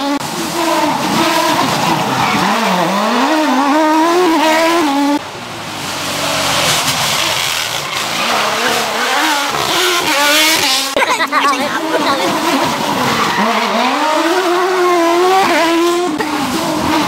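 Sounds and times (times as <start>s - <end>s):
rally car engine revving: 0.0s - 17.0s
rally car passing at high revs: 0.0s - 17.0s.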